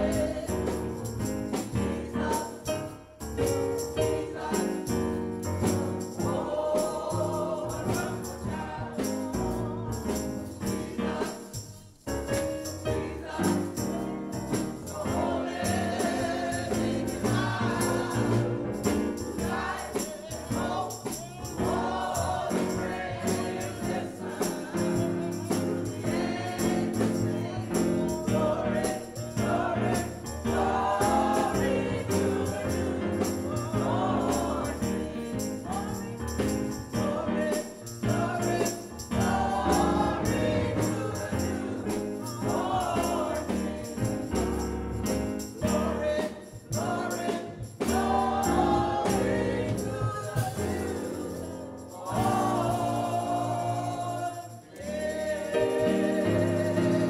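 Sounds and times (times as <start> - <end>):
choir singing gospel song: 0.0 - 57.0
instrumental accompaniment: 0.0 - 57.0.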